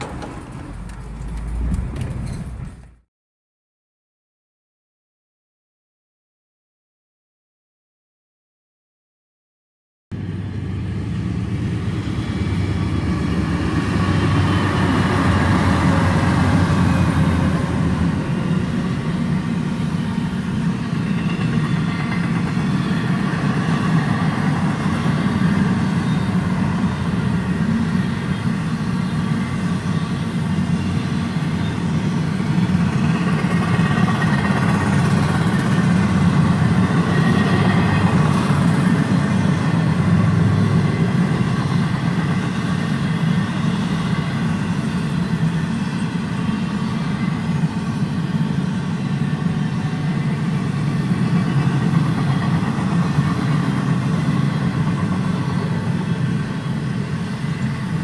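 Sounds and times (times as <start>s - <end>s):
locomotive engines droning: 0.0s - 3.0s, 10.2s - 58.0s.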